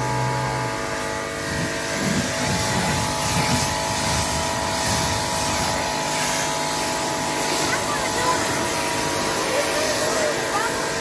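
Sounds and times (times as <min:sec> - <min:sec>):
pressure washer whining: 0:00.0 - 0:11.0
hiss: 0:00.1 - 0:11.0.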